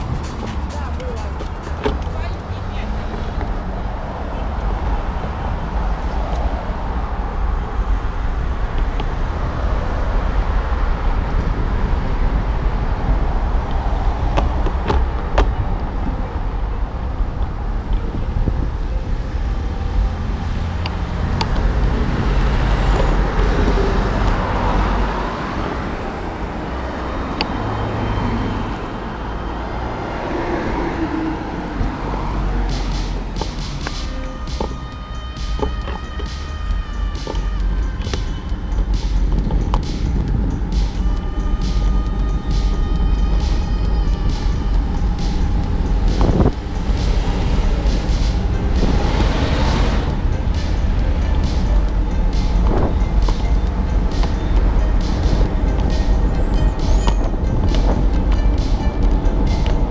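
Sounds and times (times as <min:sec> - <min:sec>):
wind rumble on microphone: 0:00.0 - 0:34.0, 0:34.6 - 0:59.9
minibus passing: 0:00.0 - 0:59.9
road traffic passing: 0:00.0 - 0:59.9.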